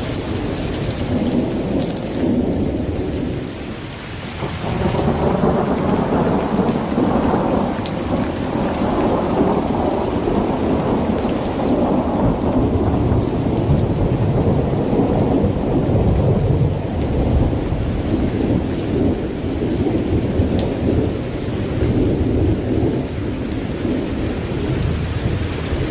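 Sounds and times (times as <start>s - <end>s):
heavy rain: 0.0s - 25.9s
rolling thunder: 0.1s - 3.6s, 4.3s - 25.9s.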